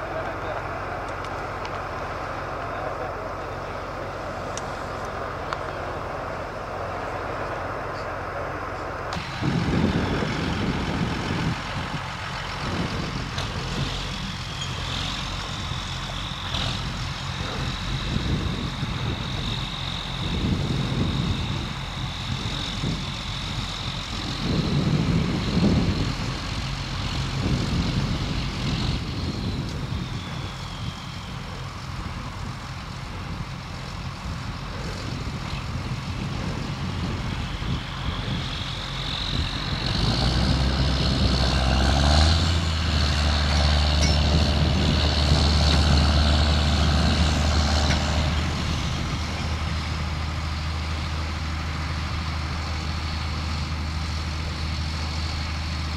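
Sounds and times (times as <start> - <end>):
high whine: 0.0 - 55.9
tractor diesel engines working hard: 0.0 - 55.9.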